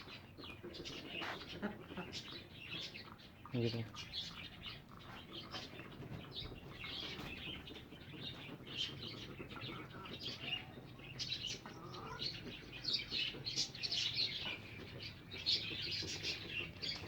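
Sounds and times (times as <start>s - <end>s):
caged birds chirping: 0.0s - 17.0s.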